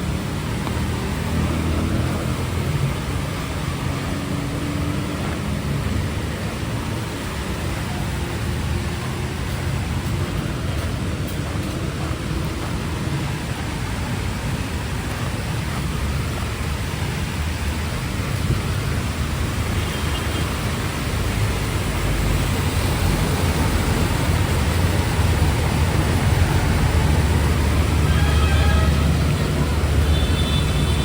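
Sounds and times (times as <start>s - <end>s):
heavy rain hissing: 0.0s - 31.0s
passing vehicle engines rumbling: 0.0s - 31.0s.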